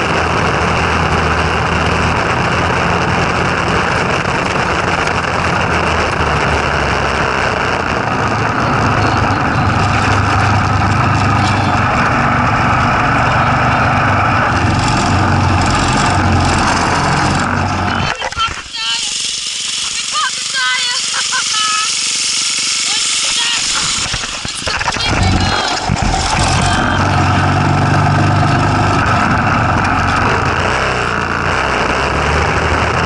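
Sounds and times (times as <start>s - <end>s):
go-kart engine running: 0.0s - 33.0s.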